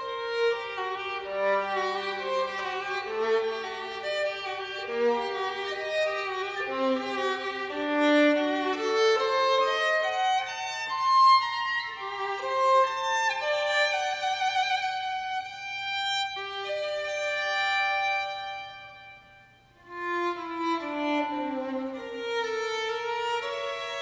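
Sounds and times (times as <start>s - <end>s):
violin playing slow notes: 0.0s - 24.0s.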